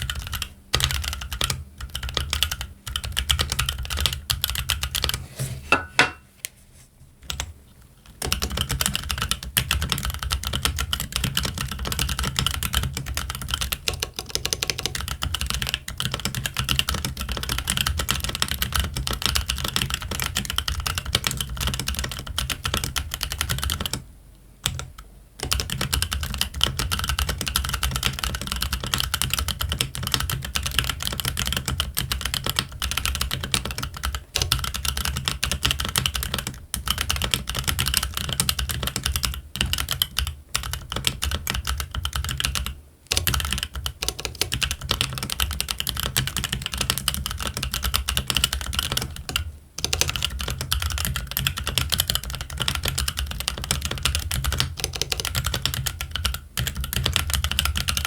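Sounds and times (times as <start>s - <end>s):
fast mechanical keyboard typing: 0.0s - 5.2s, 7.3s - 24.0s, 24.6s - 58.0s.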